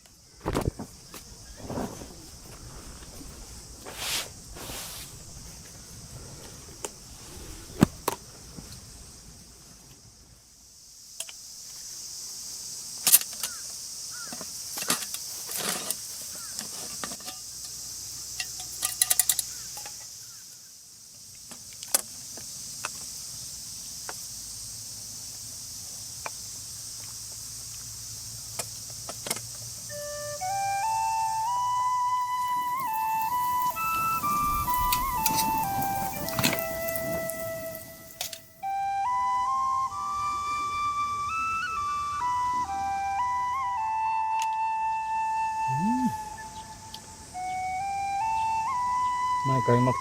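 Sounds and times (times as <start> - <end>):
steady high-pitched hiss: 0.0 - 50.0.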